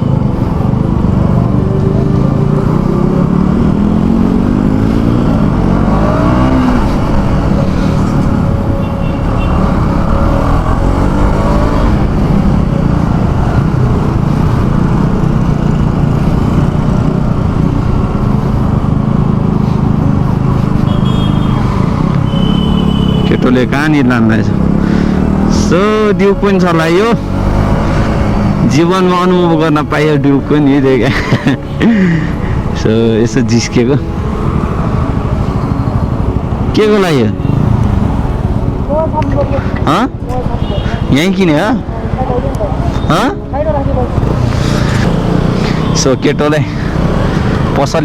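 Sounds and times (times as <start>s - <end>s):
motorcycle engine accelerating: 0.0s - 40.5s, 41.6s - 48.0s
road noise: 0.0s - 48.0s.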